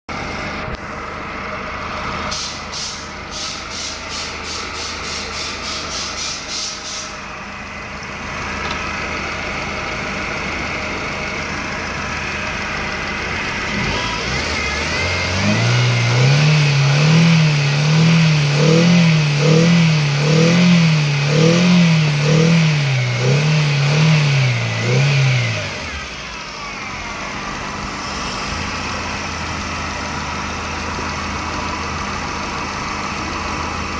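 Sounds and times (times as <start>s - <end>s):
car engine running and revving: 0.1s - 33.9s.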